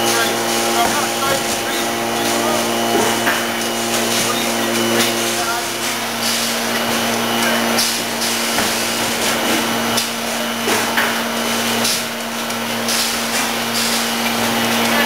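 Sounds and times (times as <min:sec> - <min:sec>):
packaging machine humming: 0:00.0 - 0:15.0
pneumatic air hisses: 0:00.1 - 0:07.1, 0:07.8 - 0:12.2, 0:12.8 - 0:14.3.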